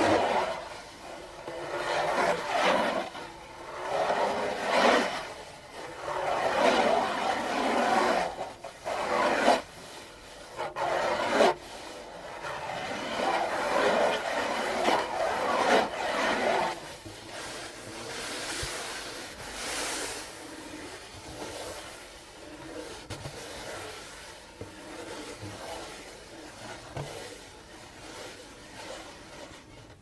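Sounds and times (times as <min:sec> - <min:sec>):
scratching and rubbing on a drum: 0:00.0 - 0:30.0.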